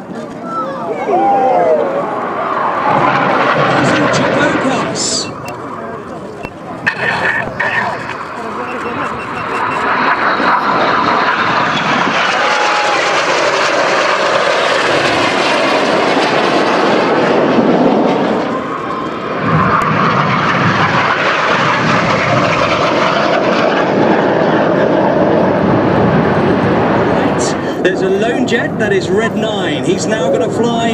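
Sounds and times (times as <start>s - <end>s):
jets passing low: 0.0s - 30.9s.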